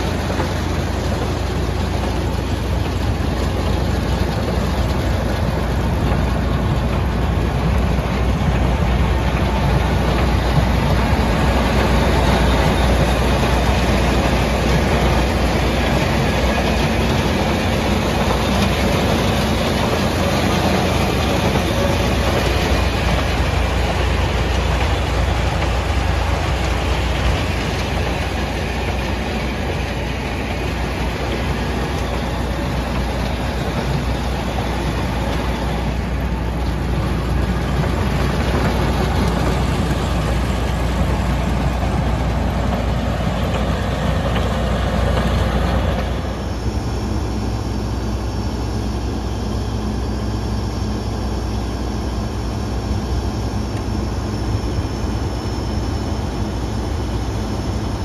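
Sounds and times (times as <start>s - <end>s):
combine harvester running: 0.0s - 58.0s
rushing noise: 0.0s - 58.0s
faint high whine: 6.8s - 58.0s.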